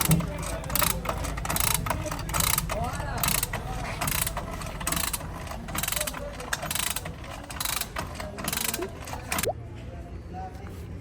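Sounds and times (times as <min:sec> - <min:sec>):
hand tool rasping on car body: 0:00.0 - 0:09.5
low background rumble: 0:00.0 - 0:09.5.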